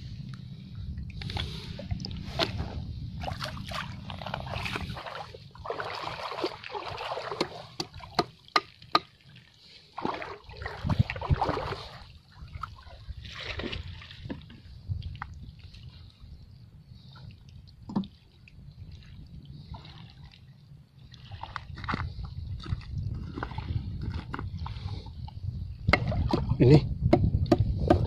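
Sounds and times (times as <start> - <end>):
wind rumble on microphone: 0.0 - 8.2, 10.3 - 28.0
seawater sloshing and splashing: 1.2 - 16.4, 17.0 - 25.2.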